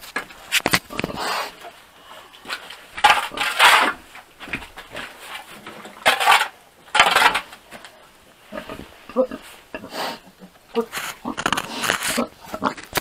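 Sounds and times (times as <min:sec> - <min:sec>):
rustling and clatter: 0:00.0 - 0:09.6, 0:10.8 - 0:13.0.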